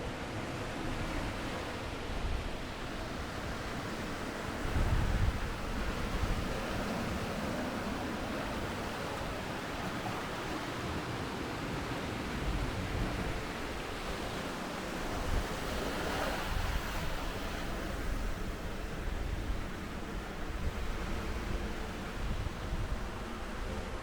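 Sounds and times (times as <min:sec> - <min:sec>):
sea surf washing onto beach: 0:00.0 - 0:24.0
wind buffeting microphone: 0:00.0 - 0:24.0.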